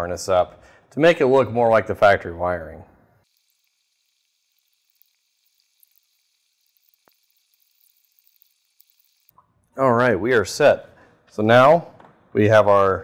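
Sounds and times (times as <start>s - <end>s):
faint steady hiss: 0.3s - 13.0s.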